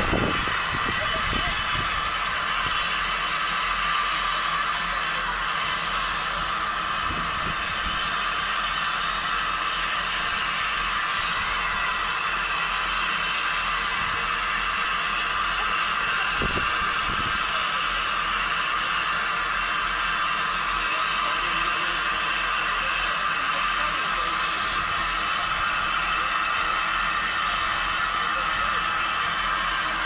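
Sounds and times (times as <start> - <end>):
steam locomotive hissing steam: 0.0 - 30.0.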